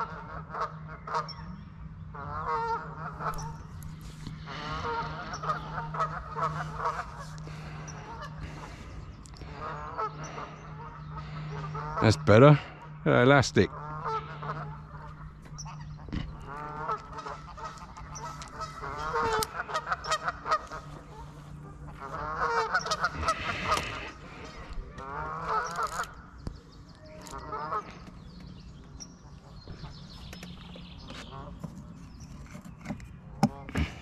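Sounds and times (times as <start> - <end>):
geese honking: 0.0 - 32.0.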